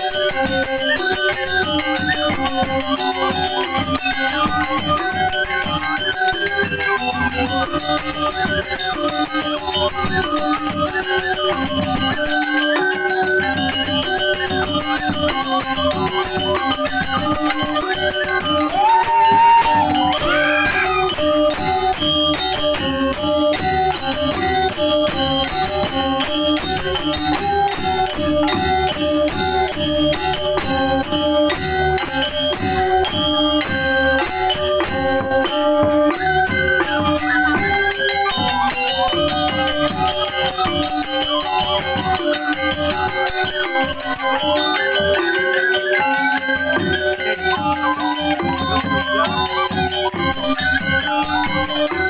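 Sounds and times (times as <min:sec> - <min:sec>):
gamelan music: 0:00.0 - 0:52.0.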